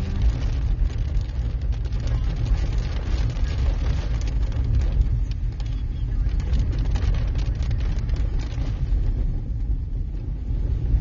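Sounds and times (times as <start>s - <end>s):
vehicle rumbling on dirt road: 0.0s - 11.0s.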